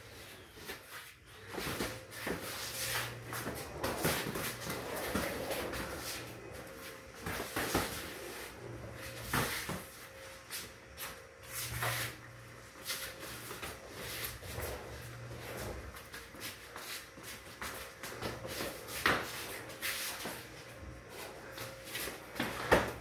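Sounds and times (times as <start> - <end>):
feet shuffling on concrete: 0.0 - 23.0.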